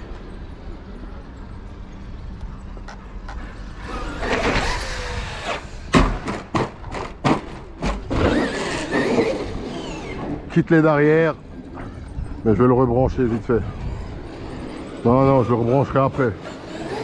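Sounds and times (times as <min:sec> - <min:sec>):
rc truck motor and tyres: 0:00.0 - 0:17.0.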